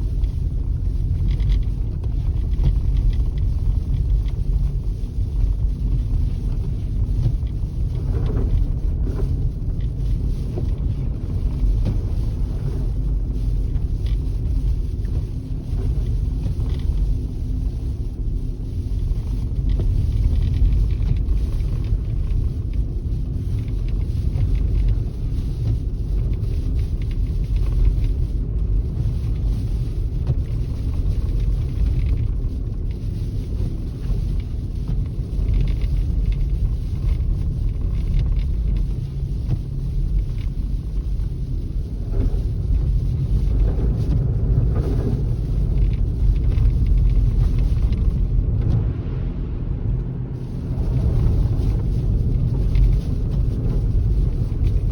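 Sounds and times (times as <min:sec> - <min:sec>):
car engine and road noise: 0:00.0 - 0:54.9
faint constant hum: 0:00.0 - 0:54.9.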